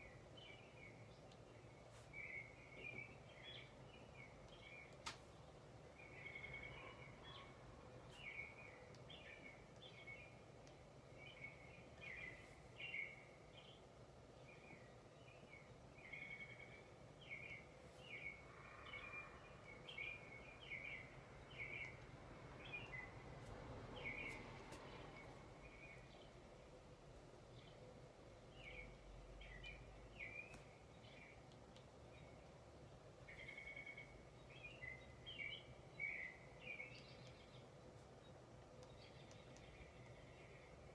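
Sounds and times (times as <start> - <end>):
birds chirping: 0.0 - 5.0, 6.0 - 24.4, 27.4 - 40.9
faint ambient hum: 0.0 - 40.9.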